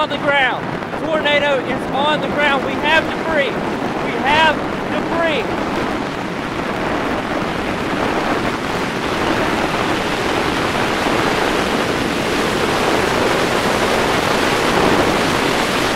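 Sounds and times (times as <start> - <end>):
storm wind on microphone: 0.0 - 15.9.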